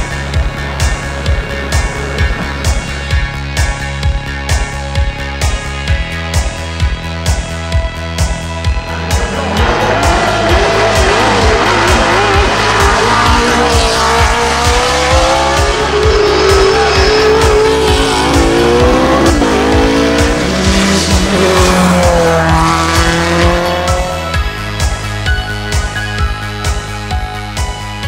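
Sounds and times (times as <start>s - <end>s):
race car engines accelerating: 0.0s - 5.9s, 8.2s - 25.3s
background music with steady beat: 0.0s - 28.0s.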